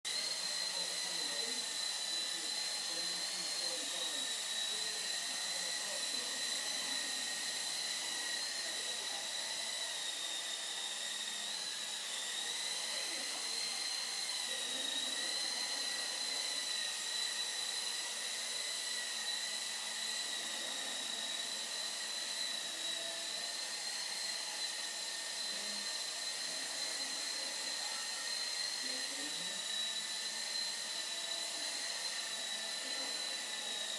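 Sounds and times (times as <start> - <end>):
small electric motor whine: 0.1 - 33.9.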